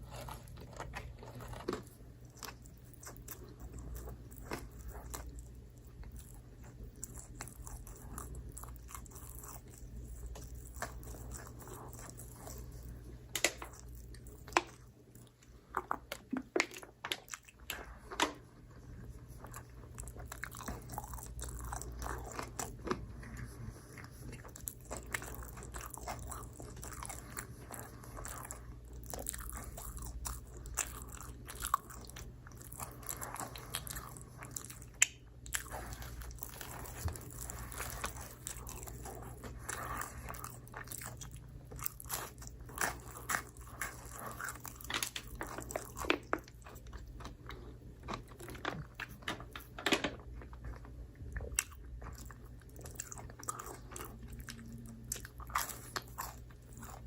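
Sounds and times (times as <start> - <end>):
constant low hum: 0.0 - 57.0
person chewing: 0.0 - 57.0.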